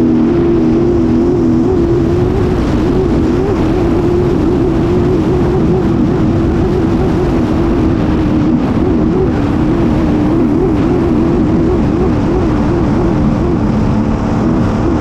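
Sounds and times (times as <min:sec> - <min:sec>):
boat engine droning: 0:00.0 - 0:15.0
rushing wind and spray: 0:00.0 - 0:15.0.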